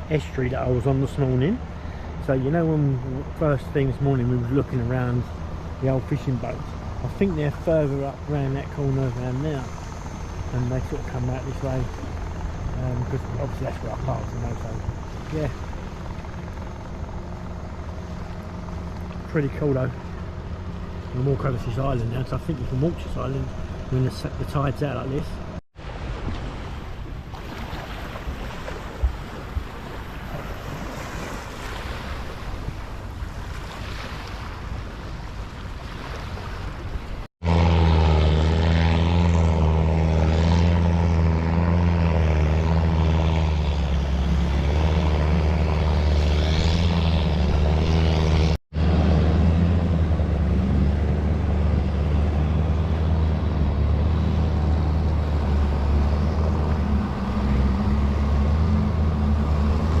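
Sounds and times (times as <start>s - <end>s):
boat engine droning: 0.0s - 60.0s
water: 0.0s - 60.0s
wind: 0.0s - 60.0s.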